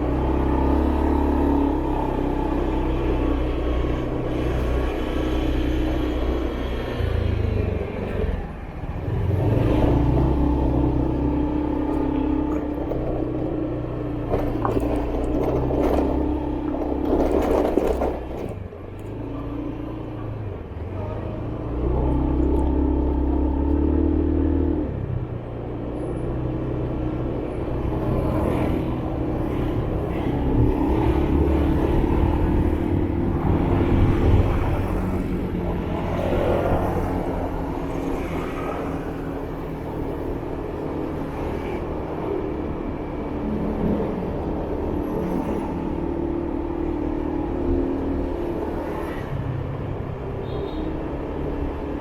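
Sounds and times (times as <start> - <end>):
hum of traffic: 0.0 - 52.0.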